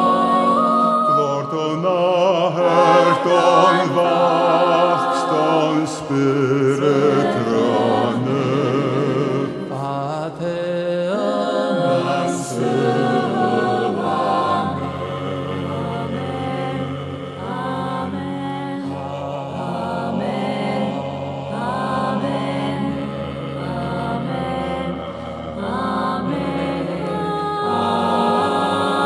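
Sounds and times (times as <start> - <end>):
choir singing a hymn: 0.0 - 29.0.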